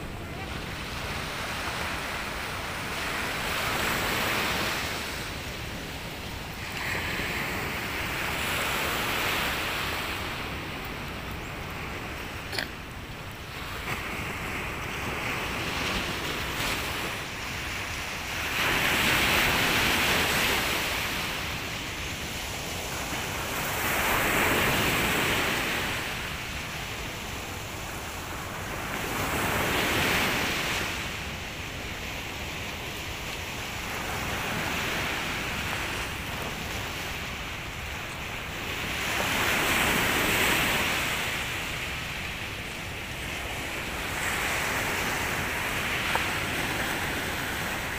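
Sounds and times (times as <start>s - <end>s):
waves breaking on beach: 0.0s - 47.9s.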